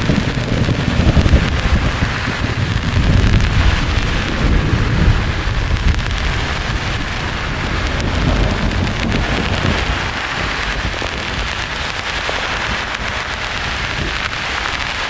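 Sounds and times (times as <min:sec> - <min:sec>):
heavy rain hissing: 0:00.0 - 0:15.0
low rumble of thunder: 0:00.0 - 0:15.0.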